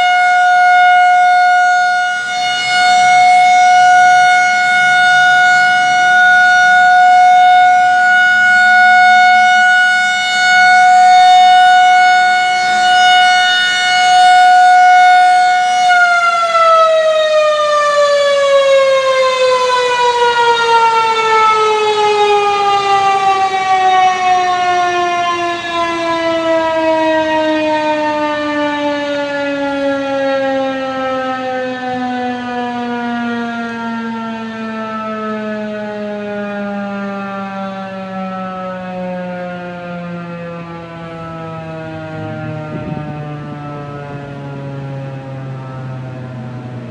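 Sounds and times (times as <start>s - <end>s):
rotating tornado siren: 0.0s - 46.9s.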